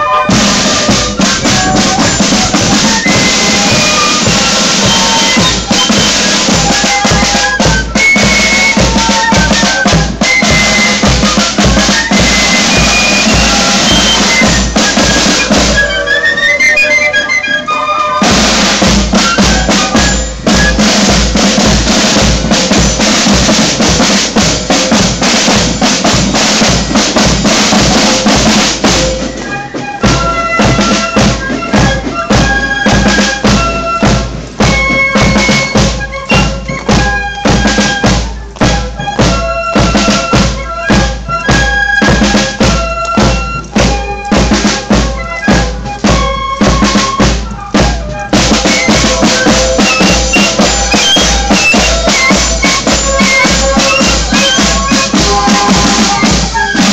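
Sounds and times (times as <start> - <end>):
marching drums: 0.0 - 17.4, 18.2 - 56.9
fife melody: 0.0 - 56.9.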